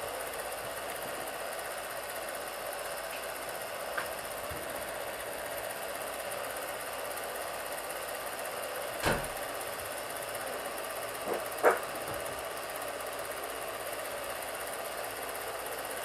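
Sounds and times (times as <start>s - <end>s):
film projector clattering: 0.1s - 16.0s.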